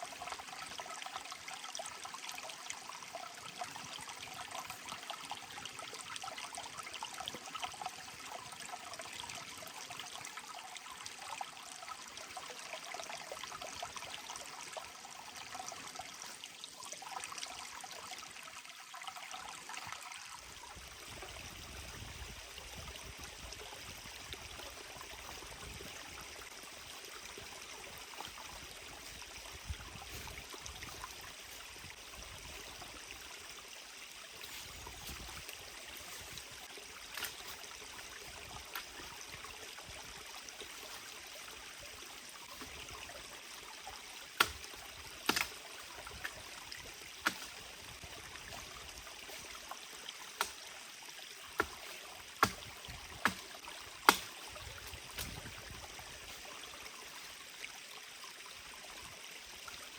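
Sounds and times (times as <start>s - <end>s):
mountain stream flowing: 0.0s - 59.9s.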